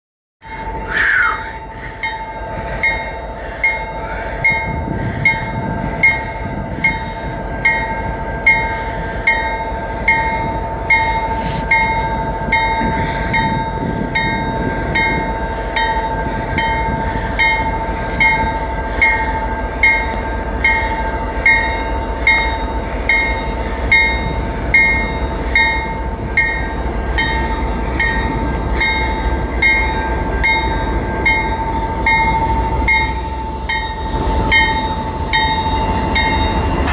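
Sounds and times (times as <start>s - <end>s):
diesel train rumble: 0.4s - 36.9s
railroad crossing bell ringing: 0.4s - 36.9s.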